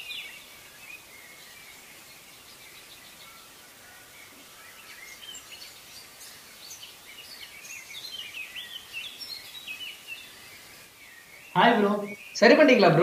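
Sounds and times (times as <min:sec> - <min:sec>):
faint outdoor hiss: 0:00.0 - 0:13.0
small birds chirping: 0:00.0 - 0:13.0.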